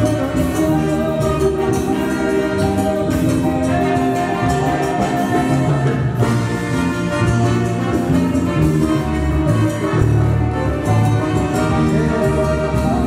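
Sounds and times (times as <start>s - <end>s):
bass line: 0.0s - 13.0s
live band playing: 0.0s - 13.0s
trumpets and trombone: 0.0s - 13.0s.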